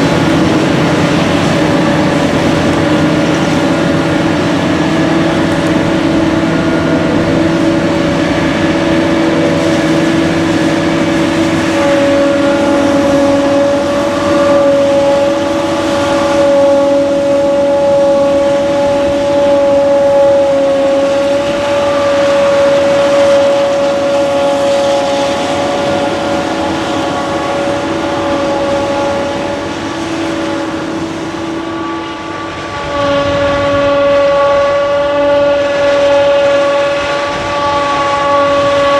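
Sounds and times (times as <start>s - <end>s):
harvesting machinery engine: 0.0s - 38.9s
high-pitched machine whine: 0.0s - 38.9s.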